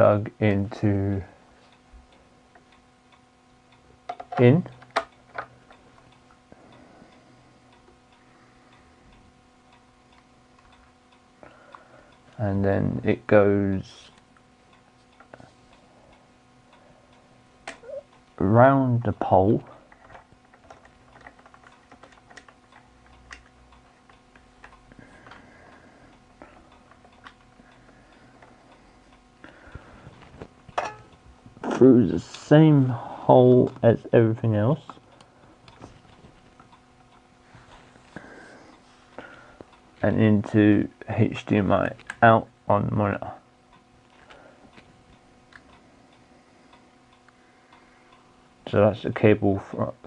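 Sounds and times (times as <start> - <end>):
faint steady ticking: 0.0 - 50.0
low steady hum: 0.0 - 50.0.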